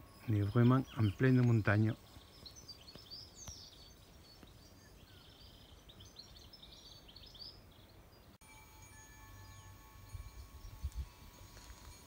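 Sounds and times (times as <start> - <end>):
faint birdsong chirps and whistles: 0.0 - 12.0
steady background hiss: 0.0 - 12.0.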